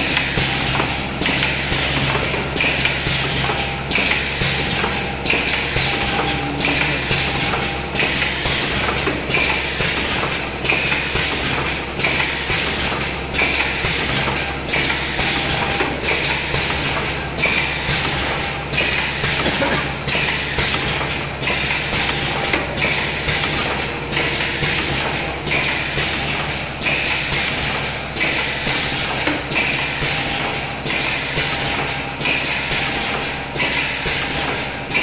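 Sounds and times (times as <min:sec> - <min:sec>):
machine stations clacking: 0:00.0 - 0:35.0
steady machine hum: 0:00.0 - 0:35.0.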